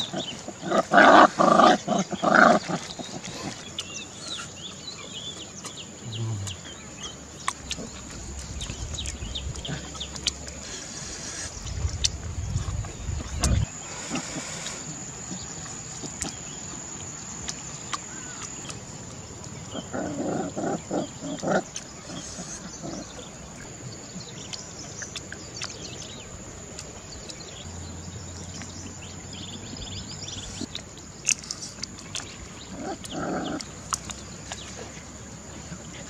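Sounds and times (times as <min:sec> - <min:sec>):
puppy growling and chewing: 0:00.0 - 0:36.0
background hiss: 0:02.8 - 0:36.0.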